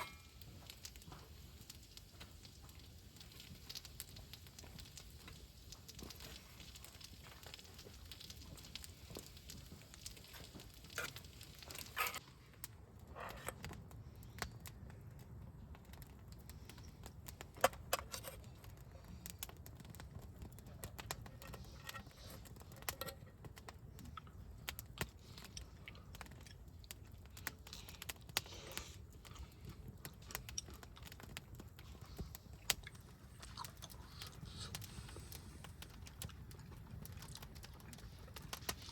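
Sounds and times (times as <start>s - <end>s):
firewood crackling and popping: 0.0s - 38.9s.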